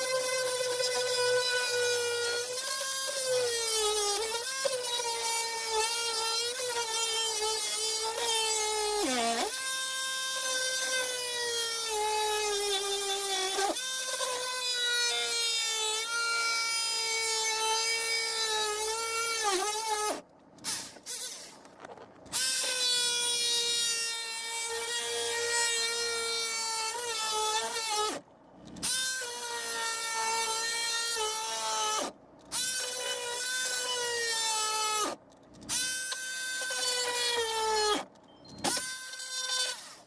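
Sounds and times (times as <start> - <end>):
power tool cutting wood: 0.0 - 21.6, 22.3 - 40.0.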